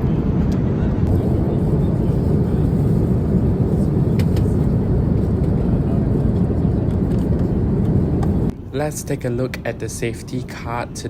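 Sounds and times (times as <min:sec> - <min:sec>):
aircraft cabin engine roar: 0:00.0 - 0:11.0.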